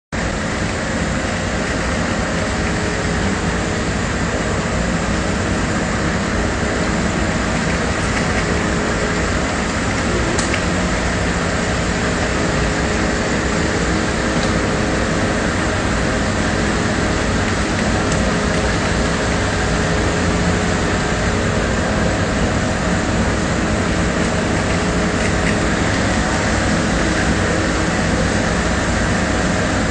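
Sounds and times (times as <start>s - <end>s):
diesel truck engine running: 0.2s - 29.9s.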